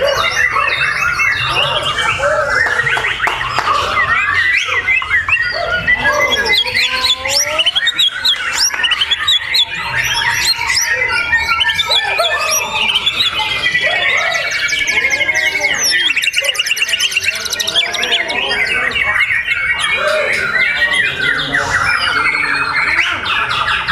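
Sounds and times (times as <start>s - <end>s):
songbird singing: 0.0s - 23.9s.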